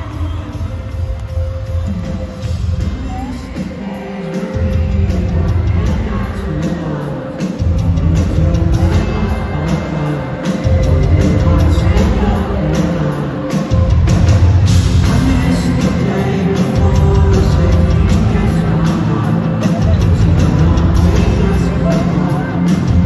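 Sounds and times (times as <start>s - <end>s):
live pop-rock band: 0.0s - 23.0s.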